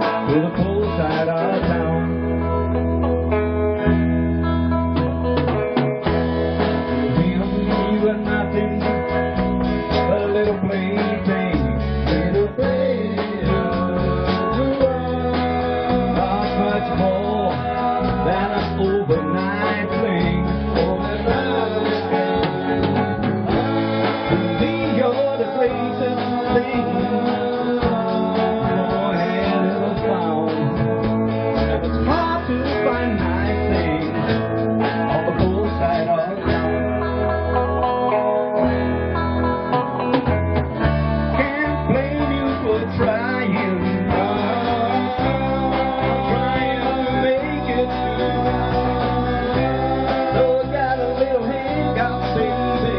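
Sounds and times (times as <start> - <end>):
live band music with guitar: 0.0 - 52.9.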